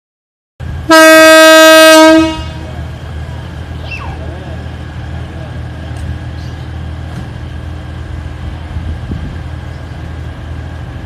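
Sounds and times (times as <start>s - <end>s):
diesel train engines droning: 0.6s - 11.0s.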